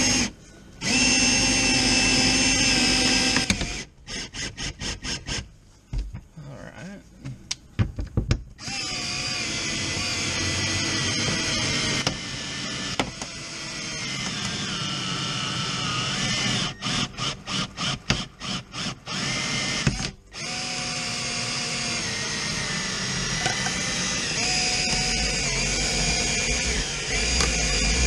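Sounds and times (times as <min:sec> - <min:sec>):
cordless drill running: 0:00.0 - 0:05.4, 0:08.6 - 0:28.0.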